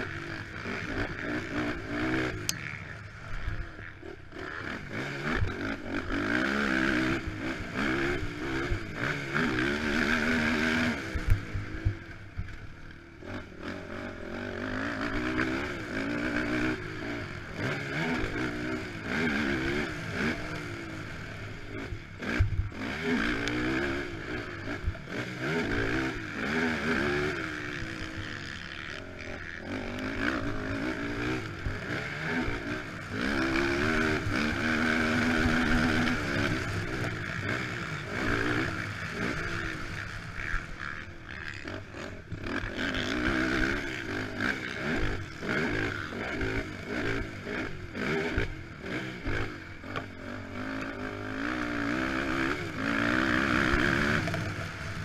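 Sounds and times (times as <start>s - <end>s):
quad engine revving: 0.0s - 12.6s, 13.2s - 55.0s.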